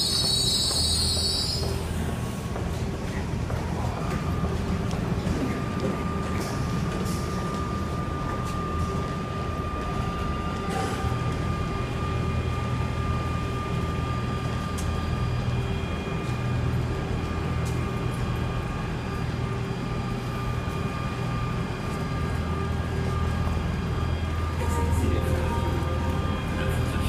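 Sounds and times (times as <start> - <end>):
constant high whine: 0.0 - 27.0
train equipment low hum: 0.0 - 27.0.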